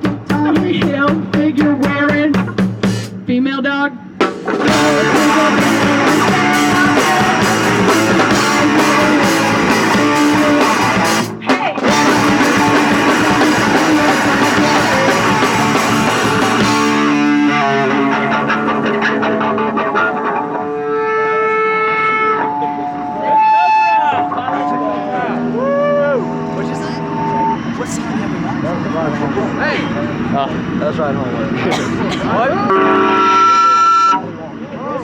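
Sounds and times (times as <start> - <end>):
punk rock band playing: 0.0 - 3.3, 4.1 - 33.7
electric guitar ringing: 4.6 - 35.0.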